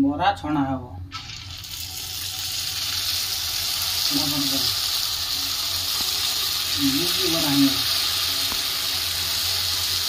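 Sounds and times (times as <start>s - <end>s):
batter sizzling in hot oil: 1.1s - 10.0s.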